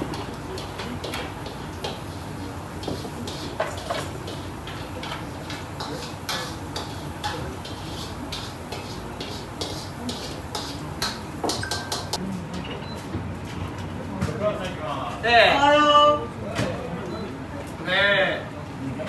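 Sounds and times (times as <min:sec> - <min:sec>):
restaurant background noise: 0:00.0 - 0:19.0.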